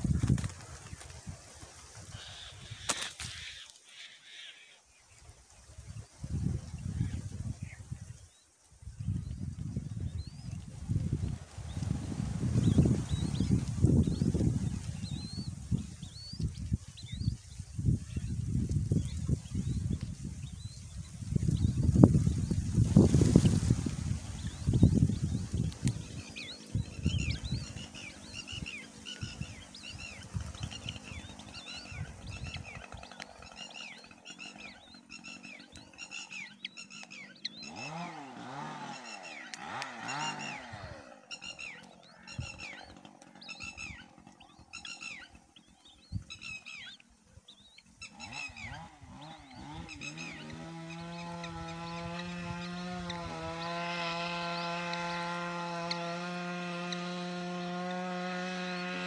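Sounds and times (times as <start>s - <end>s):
nestling birds cheeping: 0.0s - 59.0s.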